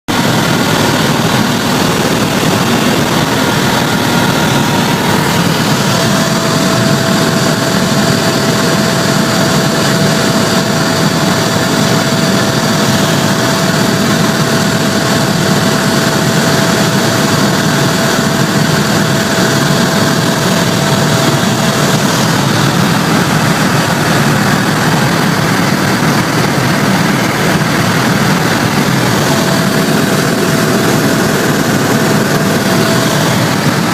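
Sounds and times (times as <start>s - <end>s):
helicopter running: 0.1s - 33.9s
thin steady whine: 0.1s - 33.9s.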